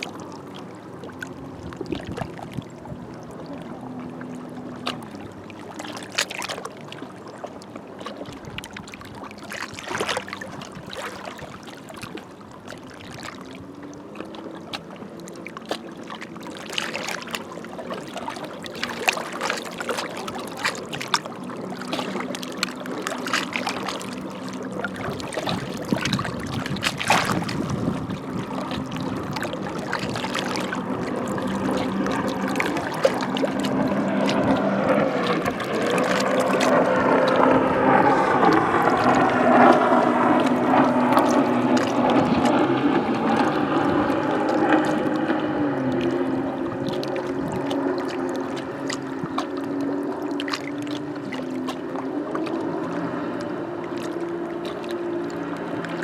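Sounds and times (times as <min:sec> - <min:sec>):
distant boat engine drone: 0:00.0 - 0:56.0
waves lapping against rocks: 0:00.0 - 0:56.0.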